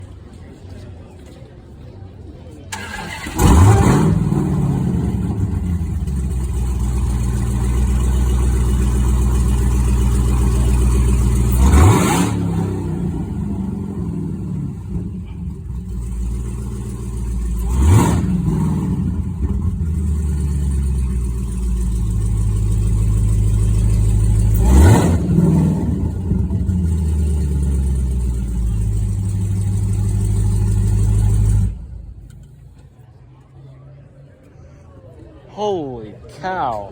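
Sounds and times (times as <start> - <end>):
car engine idling and revving: 2.7 - 33.0.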